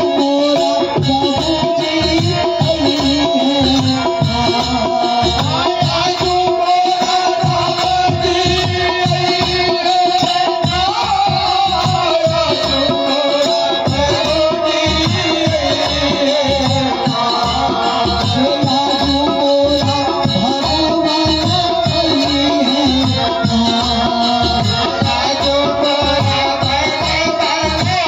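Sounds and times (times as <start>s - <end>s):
hand drum beat: 0.0s - 28.0s
held melody line: 0.0s - 28.0s
man singing: 0.0s - 28.0s.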